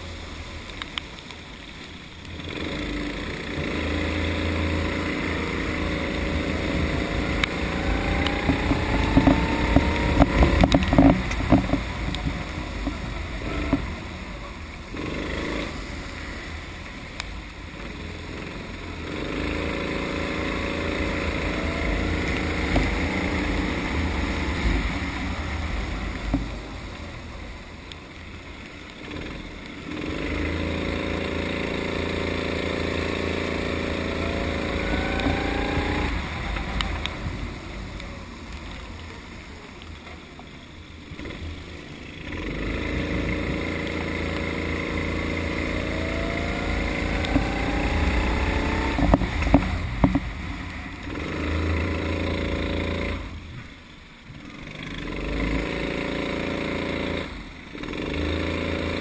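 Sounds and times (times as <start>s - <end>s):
go-kart engine revving: 2.3s - 16.8s, 17.7s - 27.3s, 29.0s - 39.4s, 40.9s - 59.0s.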